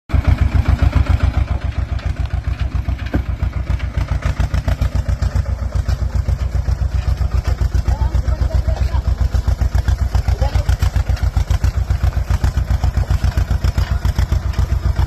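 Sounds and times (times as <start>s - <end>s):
tractor diesel engine chugging: 0.1s - 15.0s.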